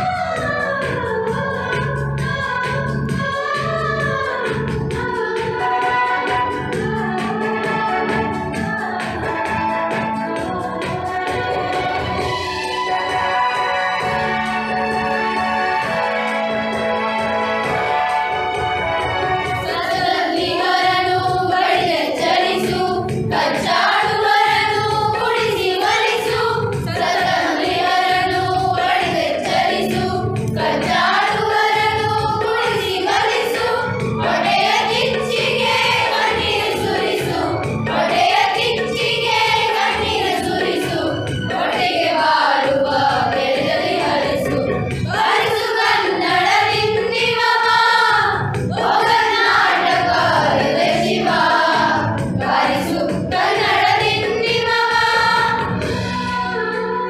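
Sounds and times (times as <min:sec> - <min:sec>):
young female voices singing: 0:00.0 - 0:12.3, 0:19.6 - 0:57.0
musical accompaniment with beat: 0:00.0 - 0:57.0.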